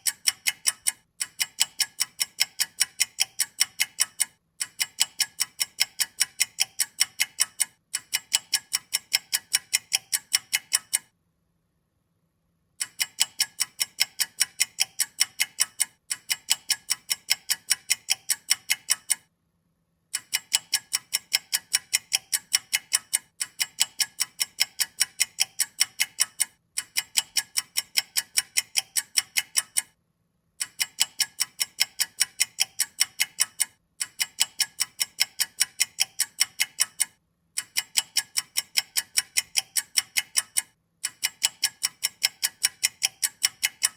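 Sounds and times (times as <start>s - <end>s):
clock ticking quickly: 0.0s - 11.1s, 12.8s - 19.3s, 20.1s - 30.0s, 30.6s - 43.9s.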